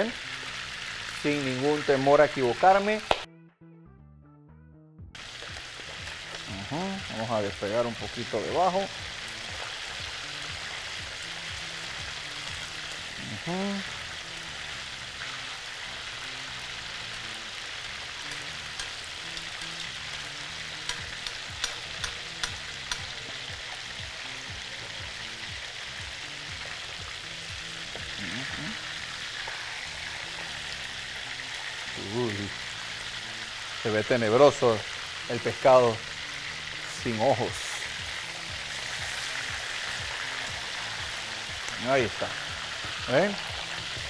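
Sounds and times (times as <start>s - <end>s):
fish sizzling in hot oil: 0.0s - 3.3s, 5.2s - 44.0s.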